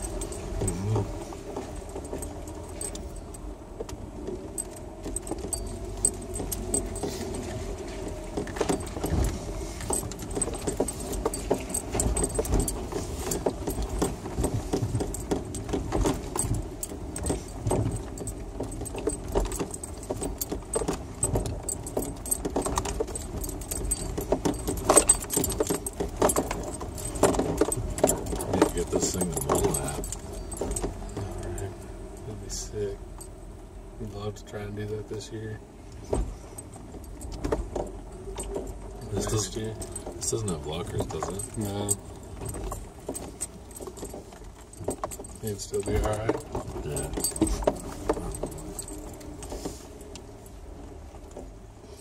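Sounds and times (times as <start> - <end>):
rattles and jingling over bumps: 0.0 - 52.0
vehicle engine hum: 0.0 - 52.0.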